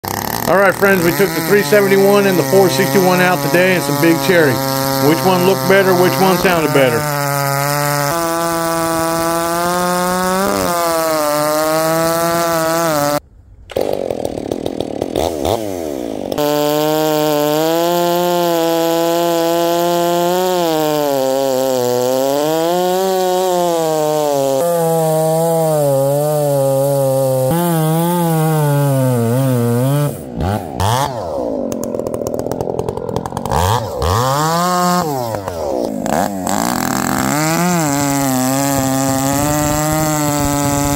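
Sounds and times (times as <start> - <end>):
chainsaws cutting logs: 0.0 - 40.9.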